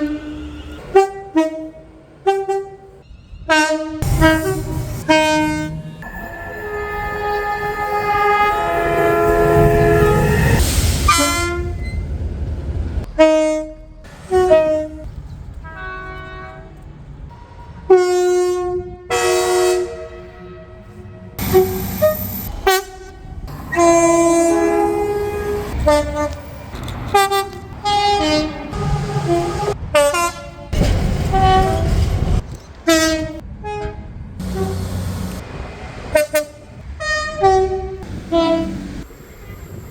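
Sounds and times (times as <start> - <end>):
two-tone train horn: 0.0 - 11.9, 13.1 - 15.0, 15.6 - 32.1, 32.9 - 35.4, 36.1 - 39.8
train rumble: 0.0 - 39.9.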